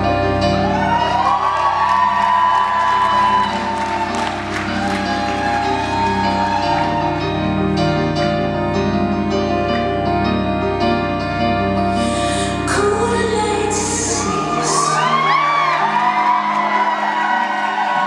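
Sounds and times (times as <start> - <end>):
keyboard improvisation: 0.0 - 18.0.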